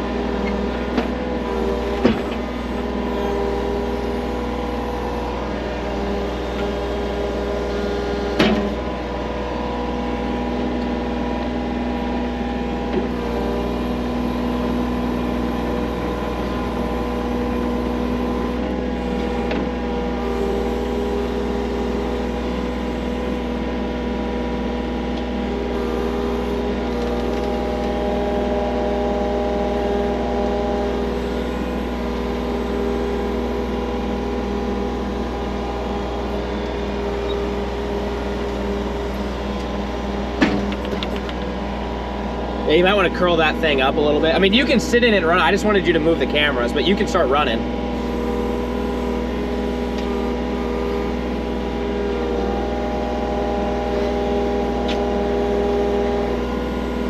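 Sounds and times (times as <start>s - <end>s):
skid loader engine running: 0.0s - 57.0s.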